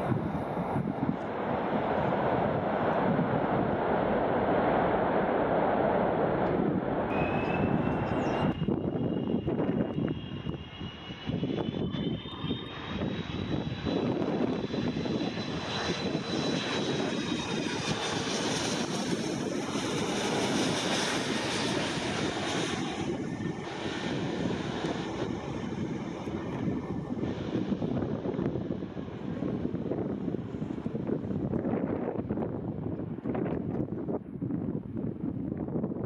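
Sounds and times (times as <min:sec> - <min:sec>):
high engine whine: 0:00.0 - 0:32.6
jet engines roaring overhead: 0:00.0 - 0:36.0.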